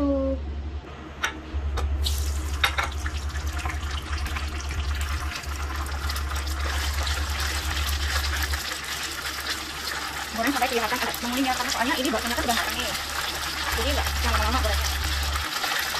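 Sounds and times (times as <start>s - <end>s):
low hum: 0.0s - 15.6s
meatballs sizzling in hot oil: 2.0s - 15.9s.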